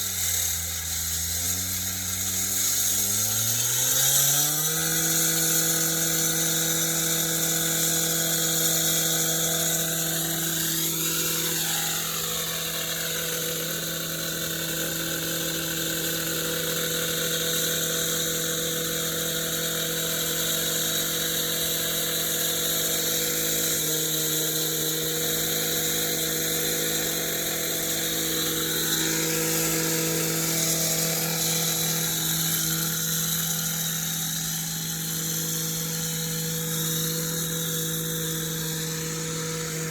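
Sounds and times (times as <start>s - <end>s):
machine motor whine: 4.2s - 39.9s.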